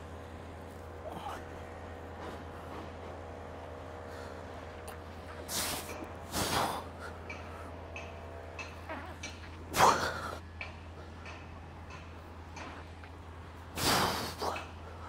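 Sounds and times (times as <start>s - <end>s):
man breathing heavily: 0.1s - 8.1s, 9.5s - 11.5s, 12.4s - 15.0s.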